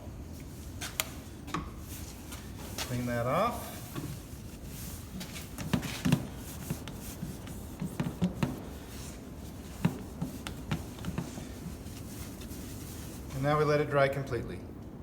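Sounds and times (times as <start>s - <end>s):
cloth wiping a door: 0.2s - 13.6s.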